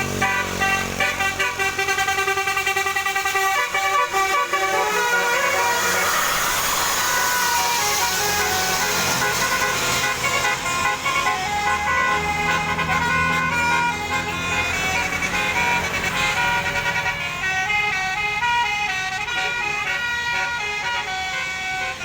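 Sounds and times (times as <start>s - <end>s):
bus air horn melody: 0.0s - 22.0s
bus engine running: 0.0s - 22.0s.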